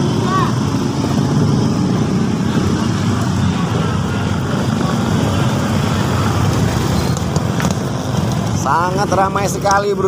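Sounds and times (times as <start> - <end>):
motorcycle and car engines running: 0.0 - 10.0
road traffic rumble: 0.0 - 10.0.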